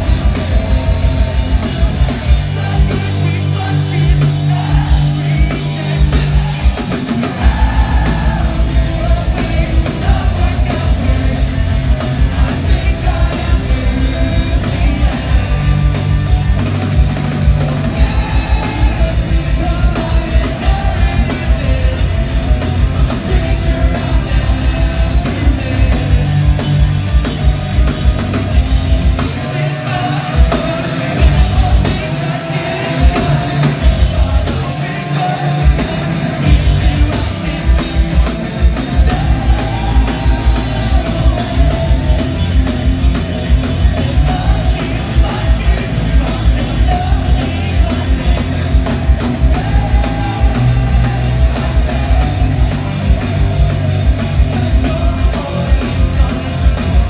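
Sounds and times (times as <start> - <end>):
distorted electric guitars: 0.0 - 57.0
drum kit beat: 0.0 - 57.0
person singing: 0.0 - 57.0
punk rock band playing live: 0.0 - 57.0.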